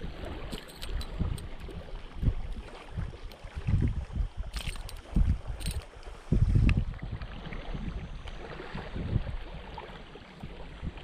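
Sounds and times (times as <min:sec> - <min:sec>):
wind buffeting a microphone: 0:00.0 - 0:11.0.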